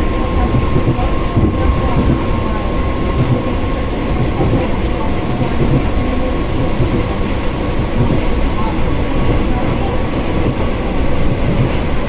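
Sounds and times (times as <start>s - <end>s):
faint steady whine: 0.0s - 11.2s
train wheels rumbling on track: 0.0s - 12.0s.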